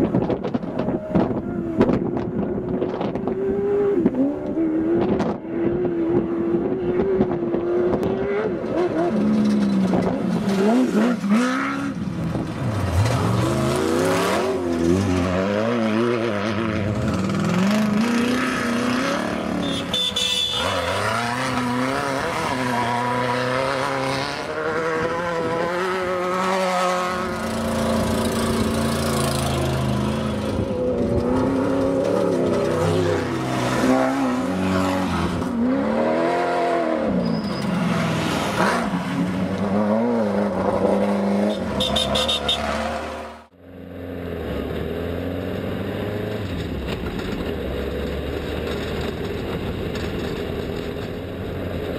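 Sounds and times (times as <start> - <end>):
race vehicle engines revving: 0.0 - 51.9.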